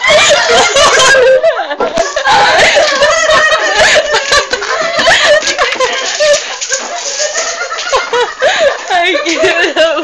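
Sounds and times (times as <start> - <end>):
people laughing and giggling: 0.0 - 10.0.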